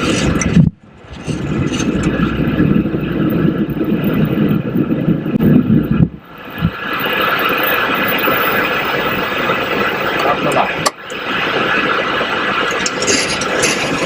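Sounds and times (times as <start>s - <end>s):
jet engines and airflow rumble: 0.0s - 14.0s.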